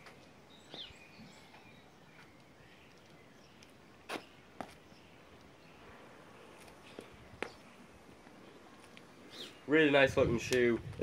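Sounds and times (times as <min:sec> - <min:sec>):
faint bird chirp: 0:00.4 - 0:09.8.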